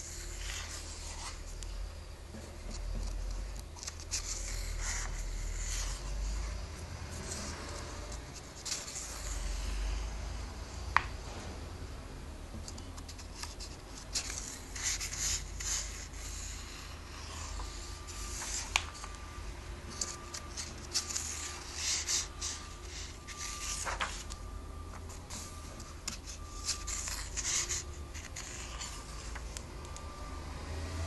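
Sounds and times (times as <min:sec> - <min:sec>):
glossy paper pages rustling: 0:00.0 - 0:01.8, 0:02.4 - 0:09.7, 0:12.6 - 0:30.0.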